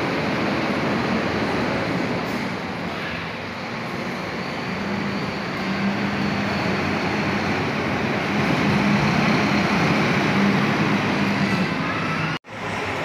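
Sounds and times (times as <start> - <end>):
bus driving past: 0.0 - 13.0
diesel bus engines humming: 0.0 - 13.0
road noise: 0.0 - 13.0.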